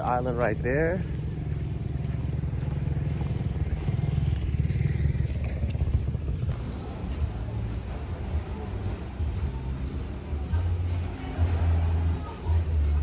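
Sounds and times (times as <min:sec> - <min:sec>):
small engine rumbling: 0:00.0 - 0:13.0.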